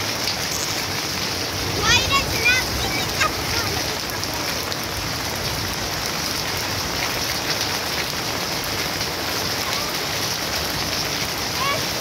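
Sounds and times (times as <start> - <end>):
rain splashing on puddles: 0.0 - 12.0.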